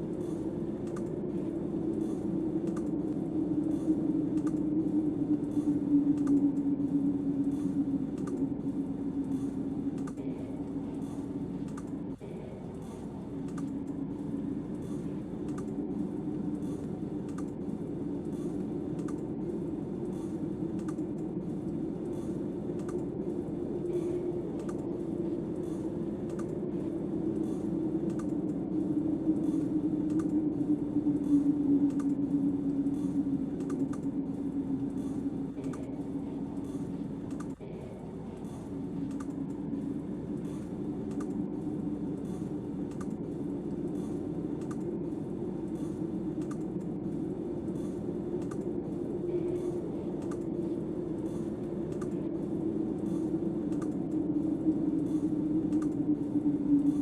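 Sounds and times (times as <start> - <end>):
snowstorm wind howling: 0.0 - 57.0
faint light clicks and crackles: 0.1 - 57.0.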